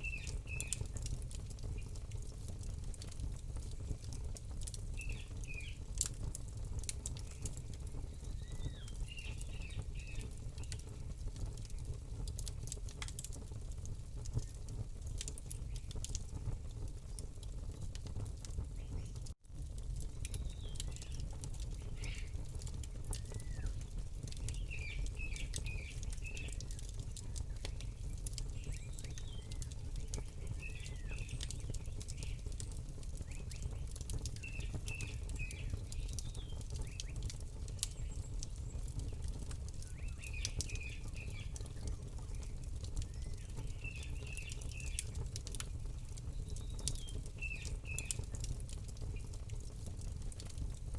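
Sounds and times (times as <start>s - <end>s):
small birds chirping: 0.0s - 13.4s, 14.2s - 18.0s, 18.6s - 19.3s, 20.0s - 49.5s
campfire crackling and popping: 0.0s - 50.9s.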